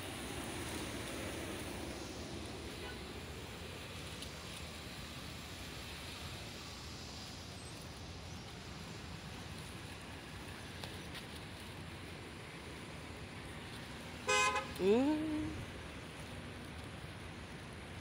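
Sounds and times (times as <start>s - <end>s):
distant road traffic hum: 0.0s - 18.0s.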